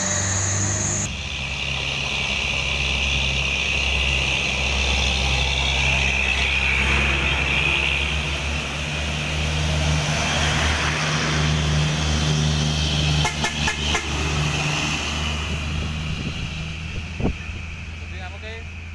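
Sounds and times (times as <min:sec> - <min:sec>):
diesel trucks passing: 0:00.0 - 0:18.9.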